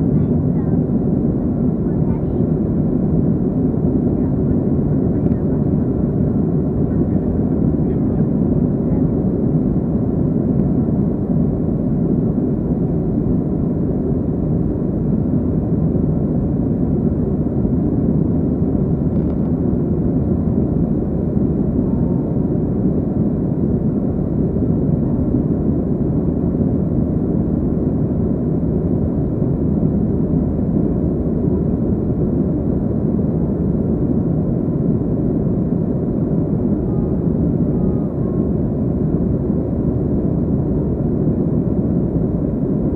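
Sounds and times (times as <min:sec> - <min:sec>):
airplane cabin jet engine roar: 0:00.0 - 0:42.9.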